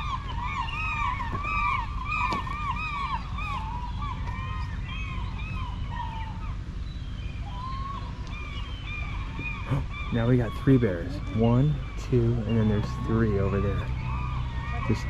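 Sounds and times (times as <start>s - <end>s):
gulls squawking: 0.0s - 15.0s
low rumble: 0.0s - 15.0s.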